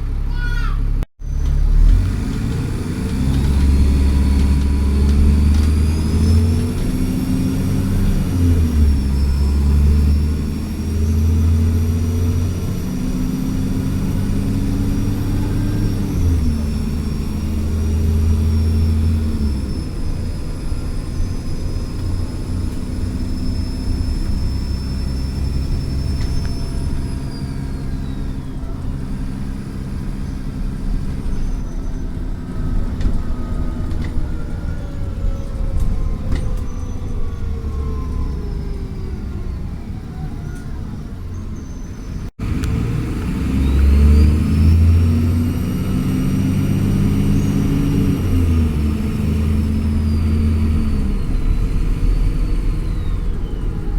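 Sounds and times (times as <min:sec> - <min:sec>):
bus diesel engine accelerating: 0:00.0 - 0:53.9.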